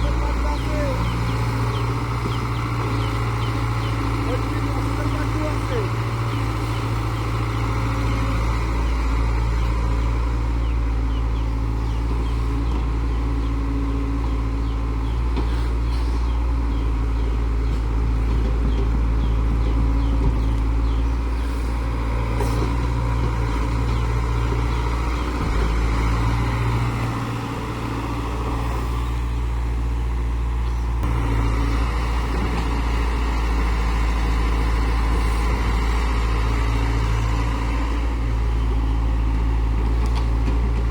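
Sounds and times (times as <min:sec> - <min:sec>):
heavy machine engine humming: 0:00.0 - 0:40.9.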